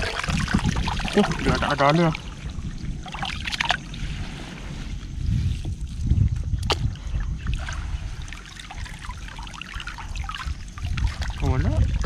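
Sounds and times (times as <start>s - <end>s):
water sloshing: 0.0s - 12.0s
wind rumbling on microphone: 0.0s - 12.0s.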